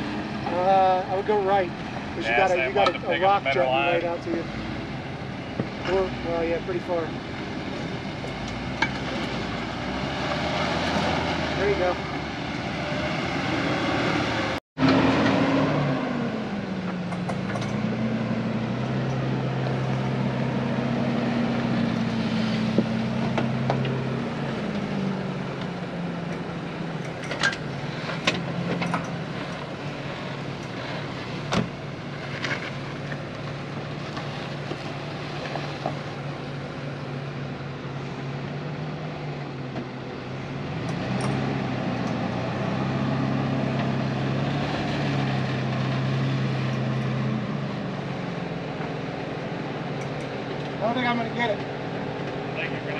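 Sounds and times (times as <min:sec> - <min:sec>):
truck engine pulling at low revs: 0:00.0 - 0:52.9.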